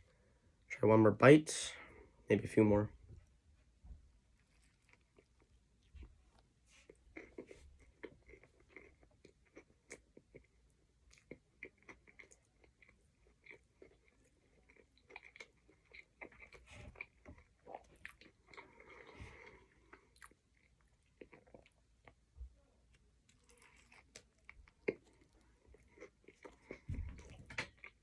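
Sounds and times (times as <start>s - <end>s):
faint chewing with mouth clicks: 3.2s - 28.0s.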